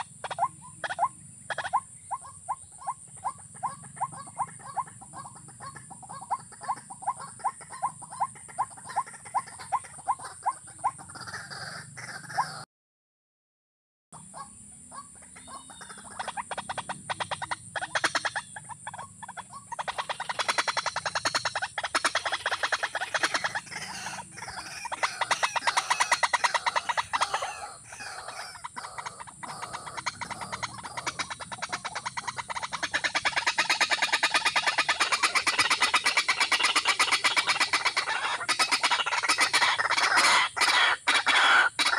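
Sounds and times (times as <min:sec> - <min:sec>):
bird croaking calls: 0:00.0 - 0:12.7, 0:14.2 - 0:41.9.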